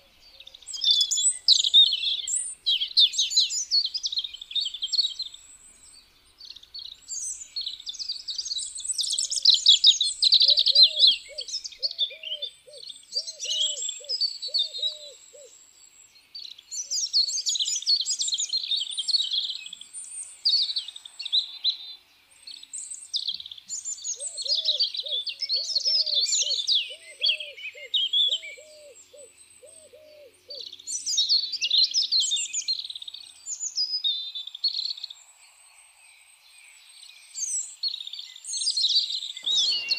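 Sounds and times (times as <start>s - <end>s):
robin singing: 0.0s - 39.9s.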